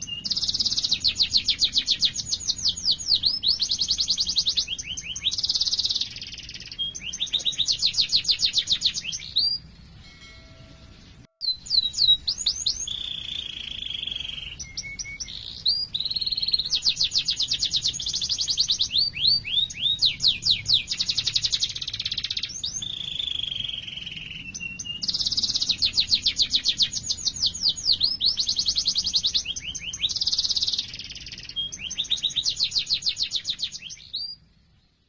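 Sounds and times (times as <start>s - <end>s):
canary singing trills: 0.0s - 34.7s.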